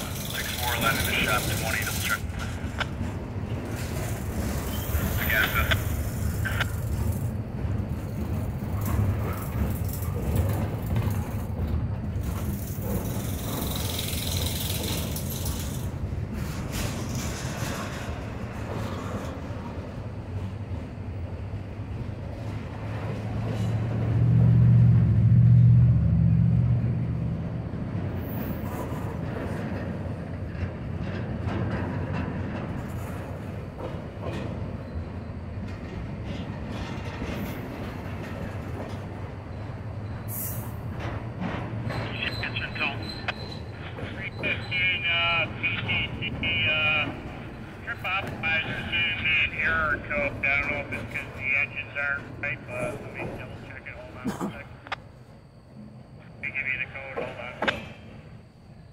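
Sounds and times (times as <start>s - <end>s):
freight train rumbling past: 0.0s - 58.9s.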